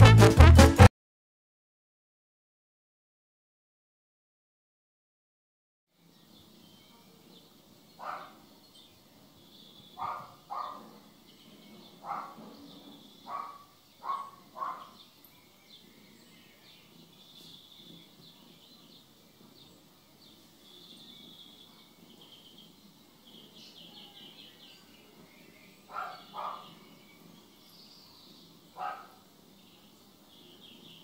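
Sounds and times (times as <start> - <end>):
faint birds chirping: 5.9 - 31.0.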